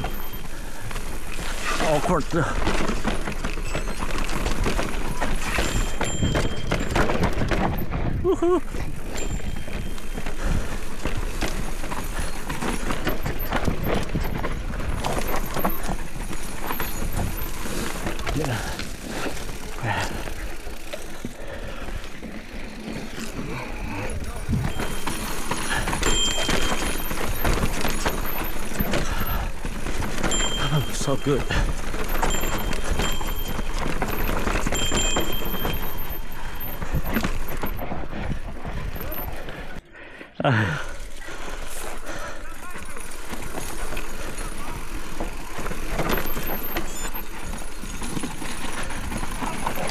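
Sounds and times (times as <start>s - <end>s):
bike rattling over rocks: 0.0s - 39.8s, 40.7s - 49.9s
tyres and wind rumbling: 0.0s - 49.9s.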